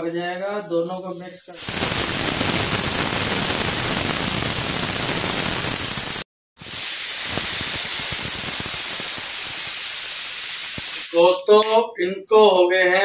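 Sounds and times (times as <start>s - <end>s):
pressure cooker hissing: 0.7s - 11.3s.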